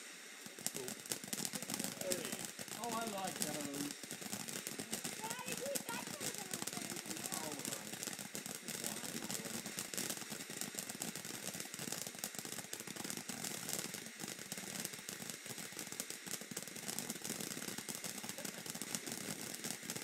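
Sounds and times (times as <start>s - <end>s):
firework fountain hissing and crackling: 0.0s - 20.0s.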